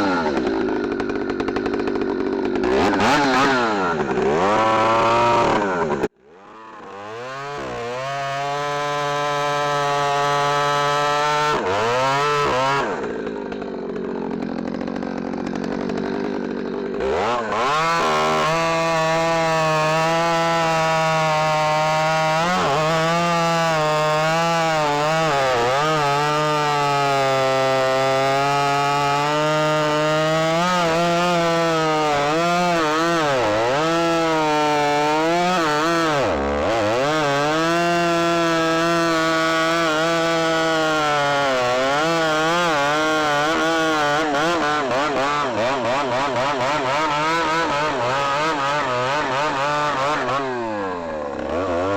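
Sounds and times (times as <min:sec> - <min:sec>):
chainsaw cutting wood at high revs: 0:00.0 - 0:51.9.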